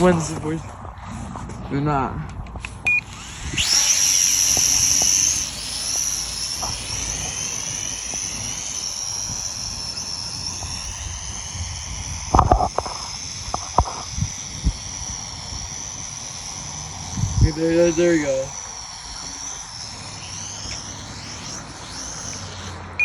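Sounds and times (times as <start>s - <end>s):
drone propellers whining: 2.5s - 23.0s.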